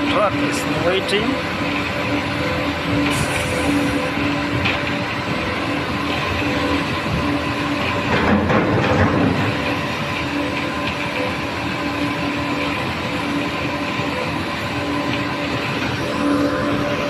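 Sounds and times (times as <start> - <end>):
concrete mixer running: 0.0 - 17.0.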